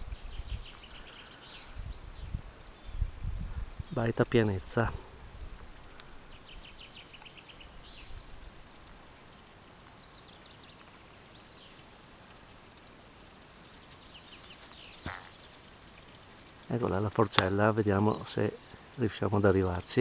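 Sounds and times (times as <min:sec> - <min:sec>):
songbird singing: 0:00.0 - 0:20.0.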